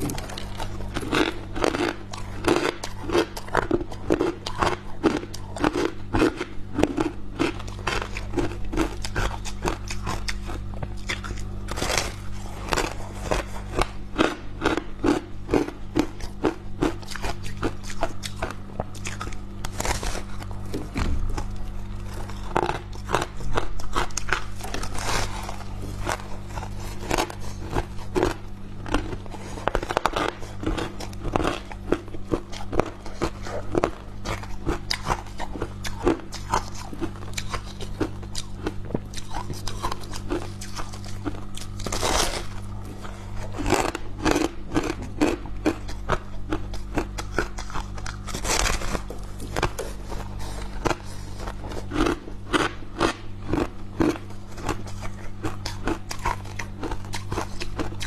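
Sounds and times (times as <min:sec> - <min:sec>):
frost being bitten and chewed: 0:00.0 - 0:58.0.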